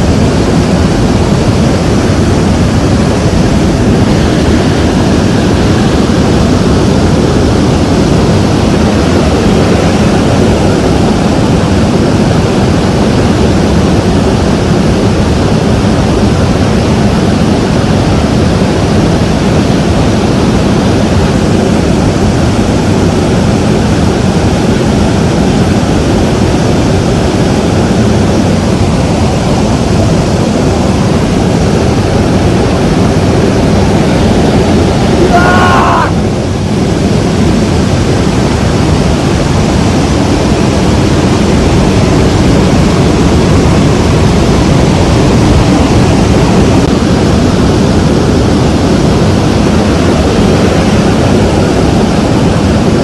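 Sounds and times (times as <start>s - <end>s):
aircraft engine roar: 0.0s - 53.0s.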